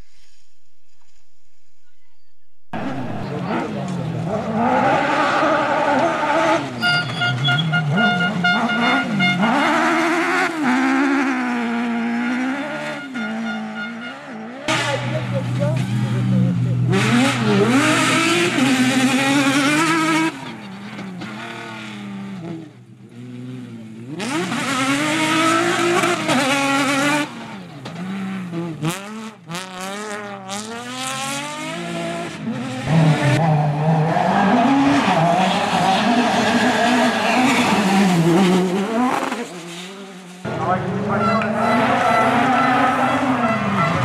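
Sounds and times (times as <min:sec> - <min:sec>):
rally car engines revving: 0:02.7 - 0:44.0.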